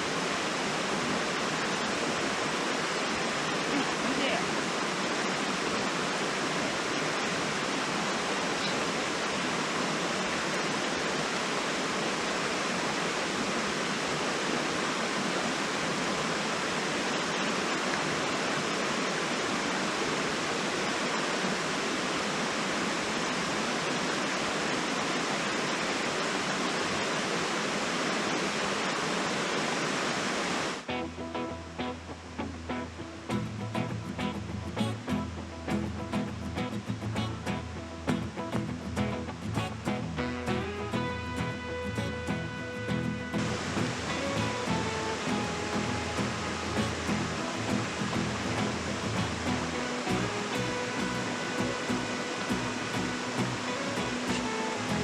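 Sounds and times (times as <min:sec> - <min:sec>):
river rushing: 0:00.0 - 0:55.0.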